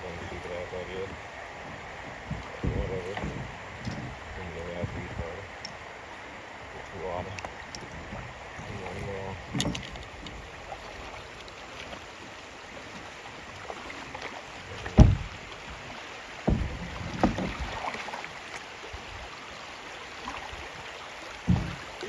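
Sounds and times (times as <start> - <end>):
kayak paddle thumps: 0.0 - 12.0, 12.8 - 18.6, 21.3 - 22.0
rushing river water: 0.0 - 22.0.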